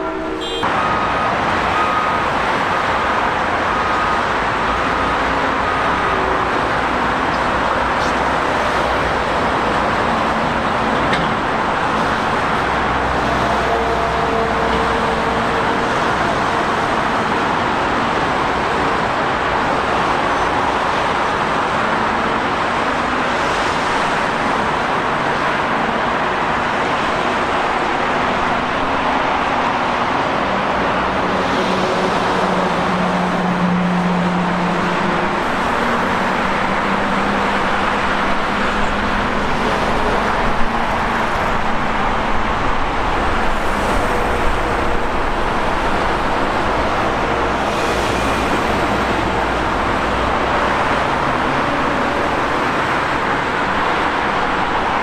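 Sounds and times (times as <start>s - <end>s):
motorway traffic rushing: 0.0s - 55.0s.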